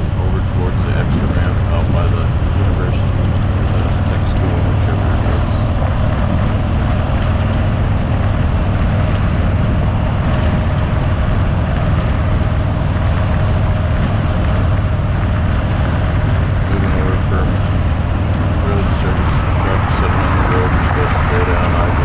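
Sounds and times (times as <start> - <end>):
wind rush on microphone: 0.0 - 22.0.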